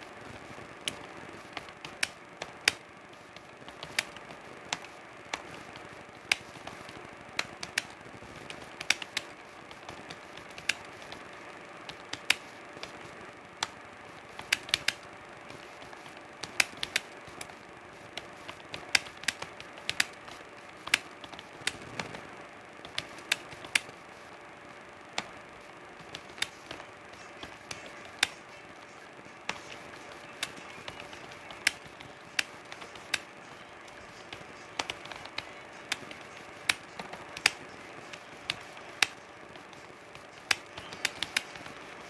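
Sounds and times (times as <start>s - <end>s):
faint steady hum: 0.0s - 42.0s
computer keyboard typing: 0.2s - 24.0s, 26.0s - 42.0s.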